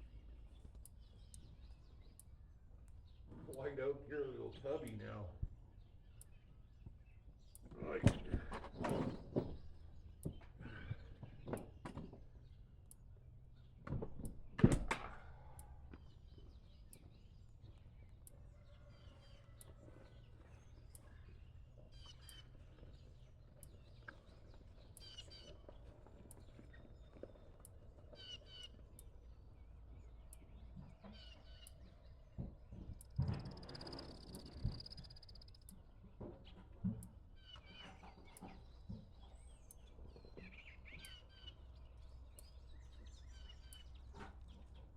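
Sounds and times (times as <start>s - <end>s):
small birds chirping: 0.0s - 14.6s, 15.4s - 44.9s.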